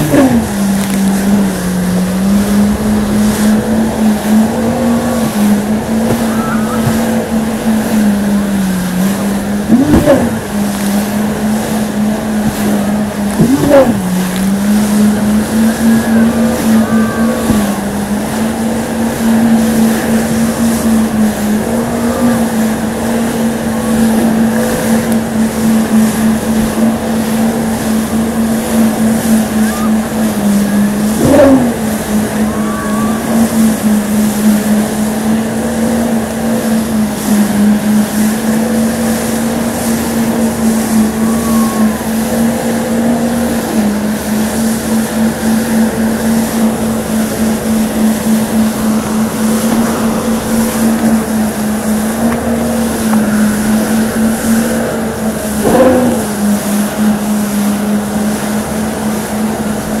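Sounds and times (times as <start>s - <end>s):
wind on microphone: 0.0s - 37.0s, 44.8s - 60.0s
motorboat engine humming: 0.0s - 60.0s
rushing wake water: 0.0s - 60.0s.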